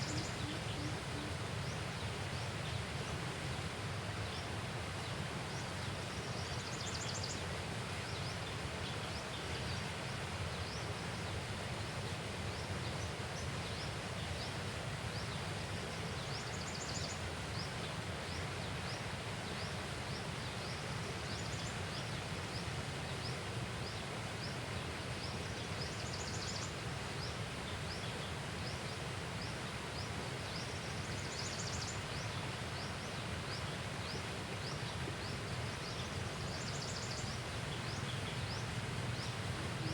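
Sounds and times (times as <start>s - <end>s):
low rumbling hiss: 0.0s - 39.9s.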